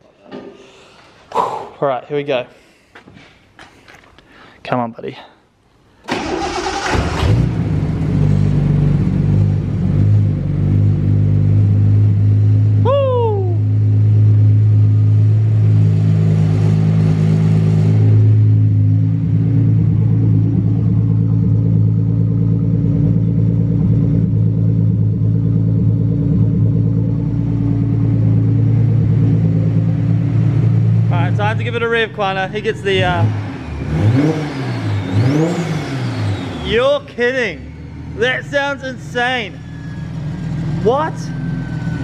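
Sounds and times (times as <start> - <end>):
car engine starting and idling: 6.0 - 12.9, 13.6 - 42.0.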